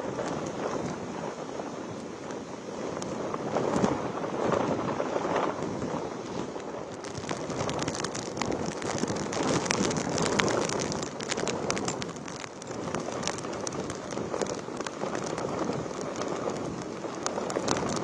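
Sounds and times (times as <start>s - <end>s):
gusty wind: 0.0s - 18.0s
heavy rain: 0.0s - 18.0s
raindrops ticking on a surface: 0.0s - 18.0s.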